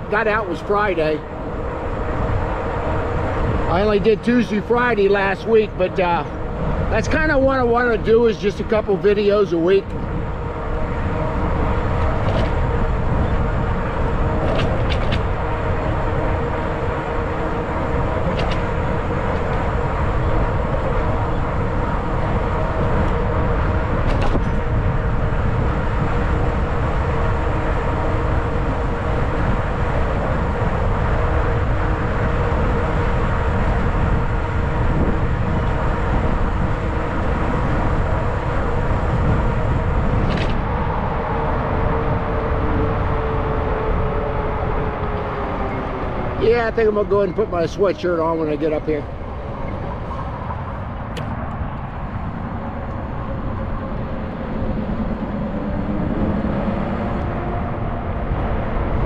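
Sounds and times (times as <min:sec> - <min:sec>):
tyre and drive hum: 0:00.0 - 0:59.0
wind on microphone: 0:01.3 - 0:04.2, 0:09.9 - 0:46.6, 0:49.0 - 0:59.0.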